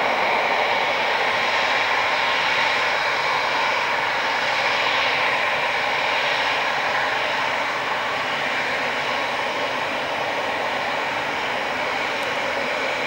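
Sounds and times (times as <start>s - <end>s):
jet engines at taxi power: 0.0s - 13.0s.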